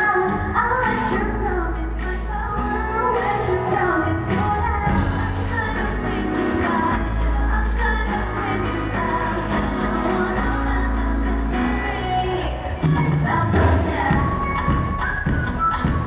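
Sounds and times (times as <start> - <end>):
instrumental backing with bass line: 0.0 - 16.0
woman singing pop song: 0.0 - 16.0.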